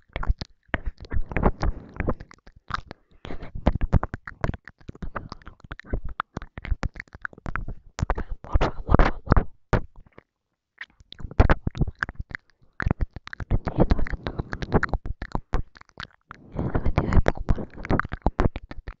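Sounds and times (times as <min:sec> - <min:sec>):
wet mouth clicks and smacks: 0:00.0 - 0:19.0
breathy whispering: 0:00.1 - 0:09.5, 0:11.2 - 0:19.0.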